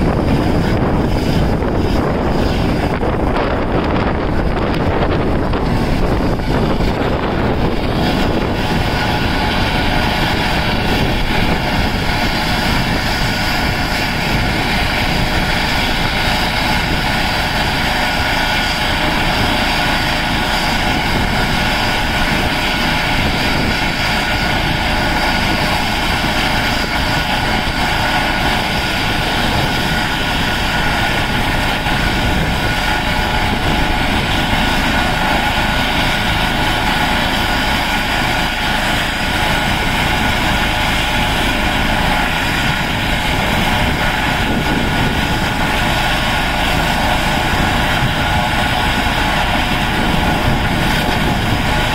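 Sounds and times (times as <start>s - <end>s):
helicopter rotor rumble: 0.0s - 51.9s
helicopter turbine whine: 0.0s - 51.9s.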